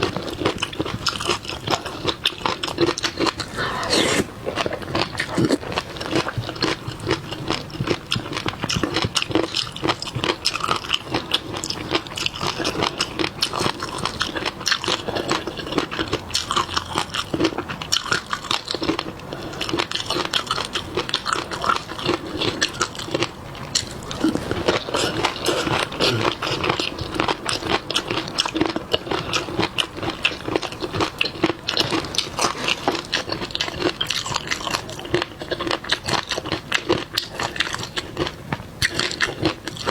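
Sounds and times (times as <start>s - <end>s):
chewing and biting seafood: 0.0s - 39.9s.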